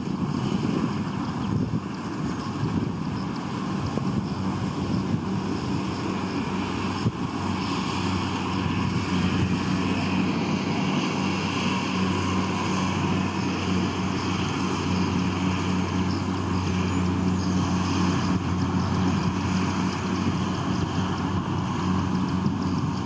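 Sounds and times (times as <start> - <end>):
combine harvester engine running: 0.0 - 23.0.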